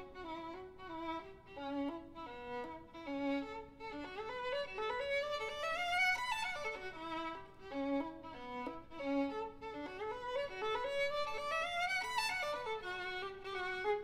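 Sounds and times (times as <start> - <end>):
solo violin melody: 0.0 - 14.0.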